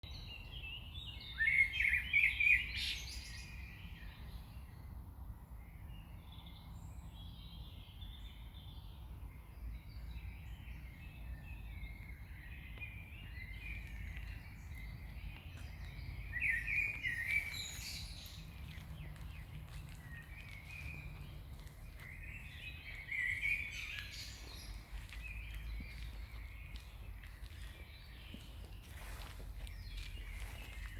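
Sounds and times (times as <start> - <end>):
songbirds singing: 0.0 - 30.9.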